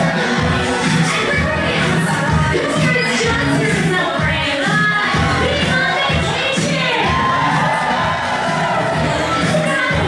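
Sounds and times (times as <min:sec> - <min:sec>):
large crowd noise: 0:00.0 - 0:10.0
show music with steady beat: 0:00.0 - 0:10.0.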